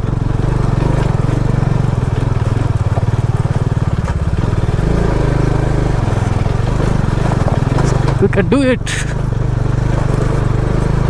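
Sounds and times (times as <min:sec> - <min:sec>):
motorcycle engine working hard: 0:00.0 - 0:11.0.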